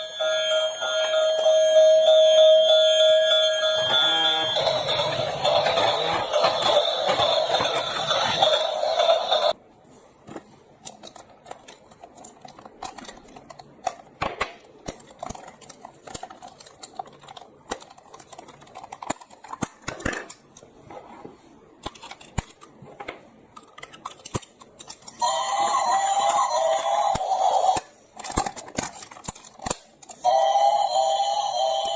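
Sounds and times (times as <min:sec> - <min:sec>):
toy vehicles clicking and knocking: 0:00.9 - 0:09.6, 0:10.8 - 0:20.7, 0:21.8 - 0:31.9.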